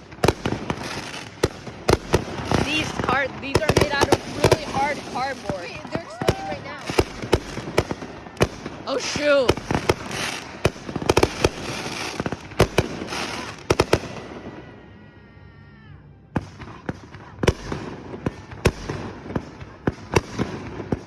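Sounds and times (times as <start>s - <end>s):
fireworks bangs and pops: 0.0s - 14.5s, 16.3s - 21.0s.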